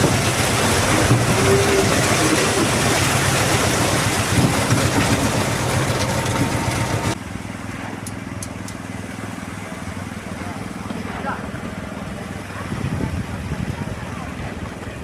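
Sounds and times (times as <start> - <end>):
concrete pump mechanical rumble: 0.0 - 15.0
engine hum: 0.0 - 15.0.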